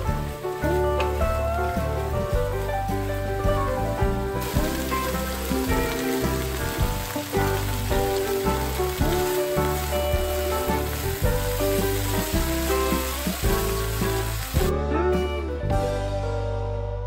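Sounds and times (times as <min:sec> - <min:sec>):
stir-fry sizzling in a wok: 0:00.0 - 0:14.7
guitar music with sliding notes: 0:00.0 - 0:17.0.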